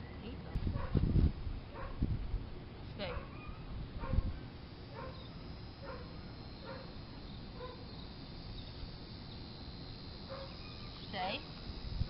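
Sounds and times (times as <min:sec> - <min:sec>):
high buzz of insects: 0:00.1 - 0:12.0.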